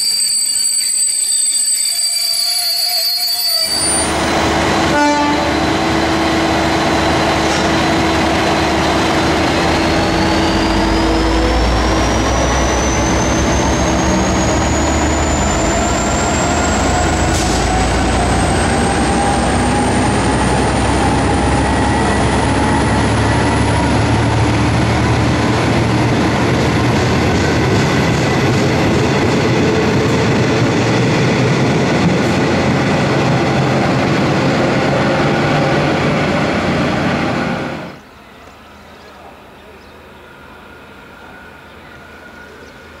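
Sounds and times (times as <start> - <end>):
whines climbing in pitch: 0.0 - 38.0
diesel locomotive engine under load: 0.0 - 43.0.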